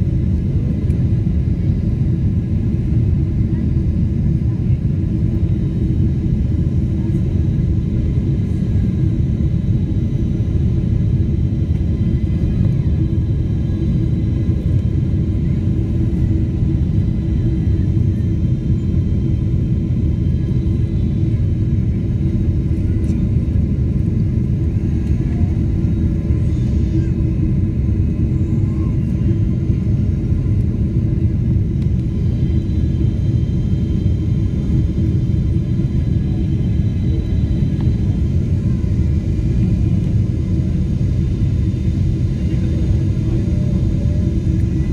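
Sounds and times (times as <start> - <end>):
airliner engines rumbling: 0.0 - 44.9.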